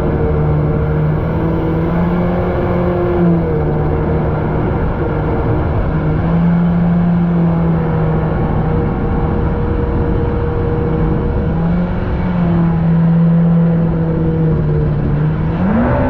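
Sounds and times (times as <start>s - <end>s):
personal watercraft engine running: 0.0s - 16.0s.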